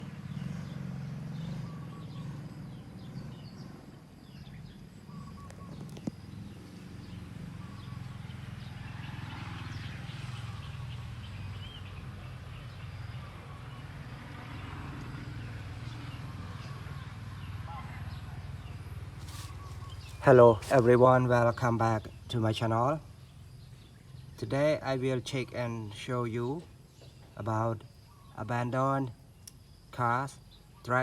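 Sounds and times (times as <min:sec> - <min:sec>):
bird chirps: 0:00.0 - 0:31.0.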